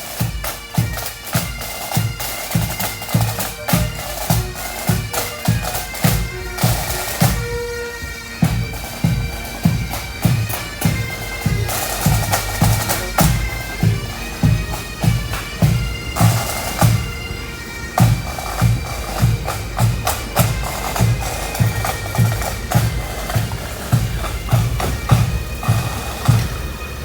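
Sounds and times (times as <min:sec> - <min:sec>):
bagpipes with drones: 0:00.0 - 0:27.0
snare drums rattling: 0:00.0 - 0:27.0.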